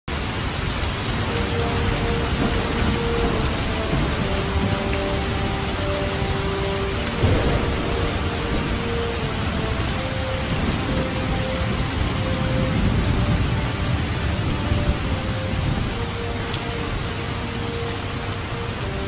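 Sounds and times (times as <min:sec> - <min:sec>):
rain hiss: 0:00.1 - 0:19.0
low thunder rumbling: 0:00.6 - 0:19.0.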